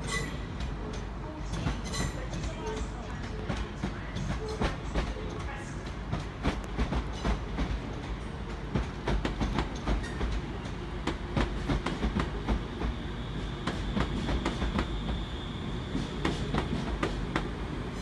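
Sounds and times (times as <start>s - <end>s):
train wheels rumbling and clicking: 0.0s - 18.0s.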